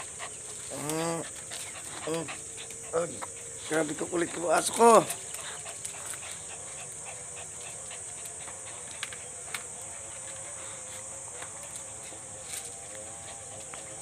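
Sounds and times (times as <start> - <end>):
faint clicks and rustles: 0.0 - 14.0
insects chirping: 0.0 - 14.0.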